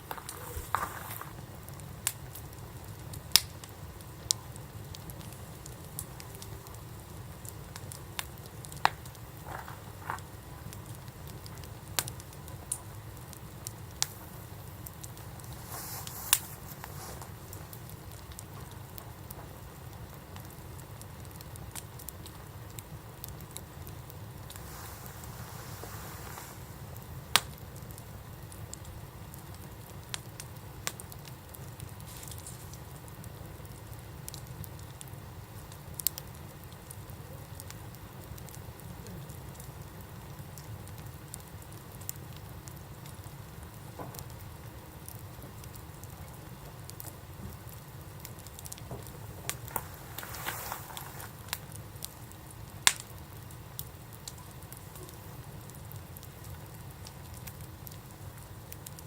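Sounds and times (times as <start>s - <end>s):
campfire crackles and pops: 0.0s - 59.0s
low fire rumble: 0.0s - 59.0s.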